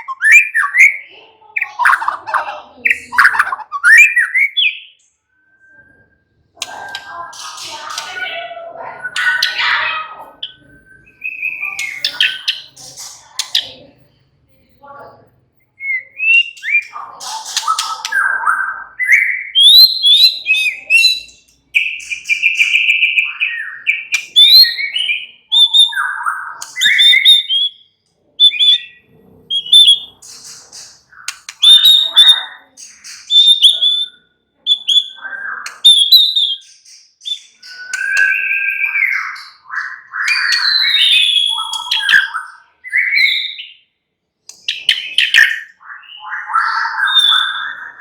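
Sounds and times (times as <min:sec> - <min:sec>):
bird singing whistled phrases: 0:00.0 - 0:08.4, 0:09.0 - 0:12.8, 0:15.8 - 0:43.8, 0:44.6 - 0:48.0.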